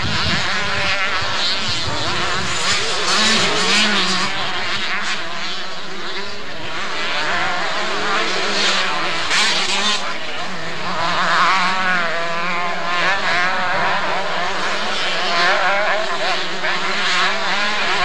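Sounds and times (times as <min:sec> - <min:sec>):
motocross bikes revving: 0:00.0 - 0:18.0.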